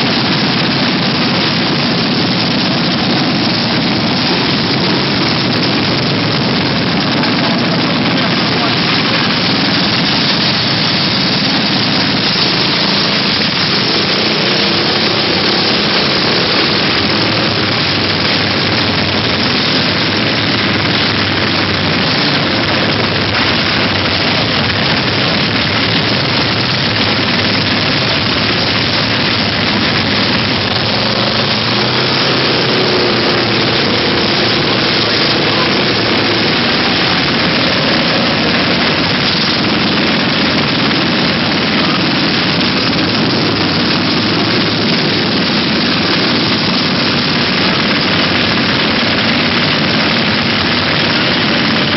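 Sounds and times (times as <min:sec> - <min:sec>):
small engines roaring: 0:00.0 - 0:51.9.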